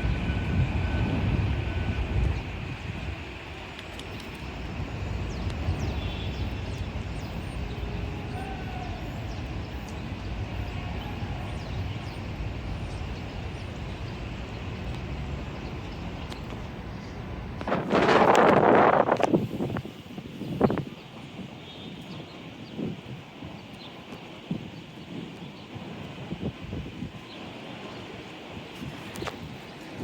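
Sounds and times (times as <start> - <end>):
low rumble of rail station: 0.0 - 30.0
train passing: 0.0 - 30.0
wind buffeting microphone: 0.0 - 30.0.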